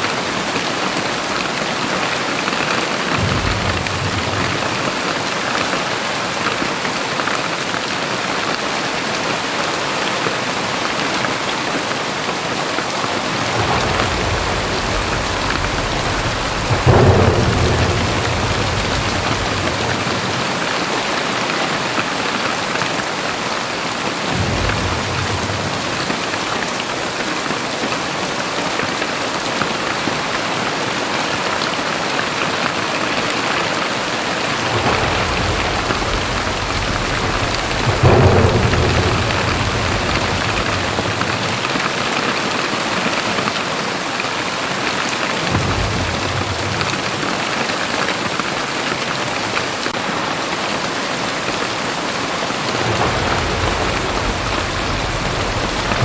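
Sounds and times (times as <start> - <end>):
heavy rain pouring: 0.0 - 56.0
thunder rumble and crack: 0.0 - 56.0.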